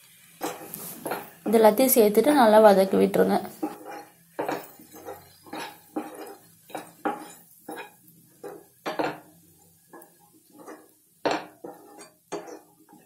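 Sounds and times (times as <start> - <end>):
wooden spatula scraping a pan: 0.3 - 1.7, 2.6 - 13.0.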